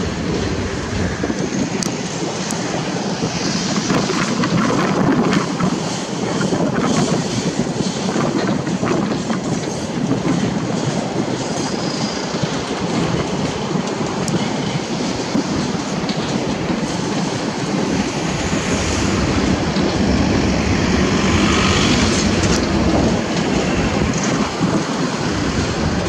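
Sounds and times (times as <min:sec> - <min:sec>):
train wheels clattering over rail joints: 0:00.0 - 0:26.0
wind buffeting microphone: 0:00.0 - 0:26.0.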